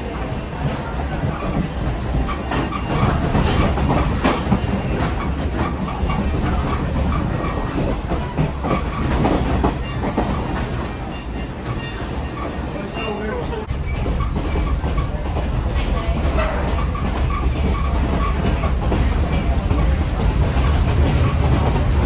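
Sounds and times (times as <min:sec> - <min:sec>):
train rumble: 0:00.0 - 0:22.0
wheels clicking over rails: 0:00.2 - 0:22.0.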